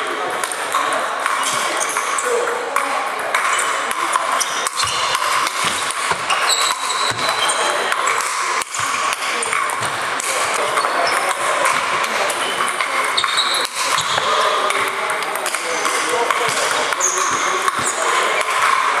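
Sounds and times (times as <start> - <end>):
background hubbub in hall: 0.0 - 19.0
ping pong balls clicking: 0.1 - 19.0.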